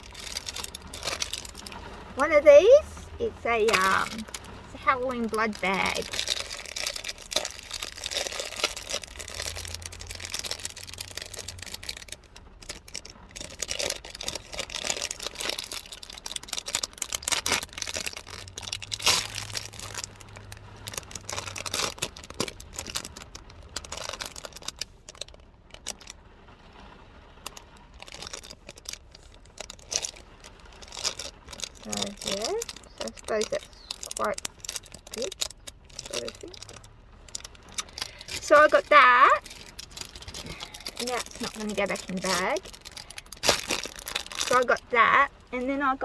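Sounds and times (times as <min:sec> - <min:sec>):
plastic packaging crinkling and tearing: 0:00.0 - 0:26.3, 0:27.4 - 0:46.0.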